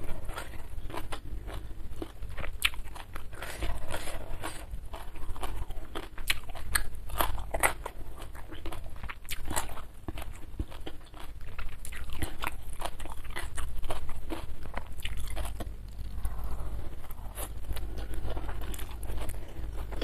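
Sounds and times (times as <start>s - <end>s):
chewing crisp food: 0.0s - 20.0s.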